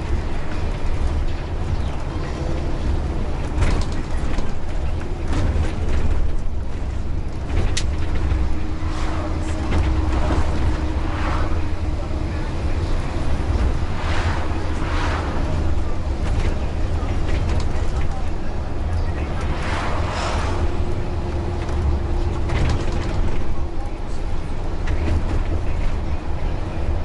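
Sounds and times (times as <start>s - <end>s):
bus engine and road rumble: 0.0s - 27.0s
faint voices: 0.0s - 27.0s.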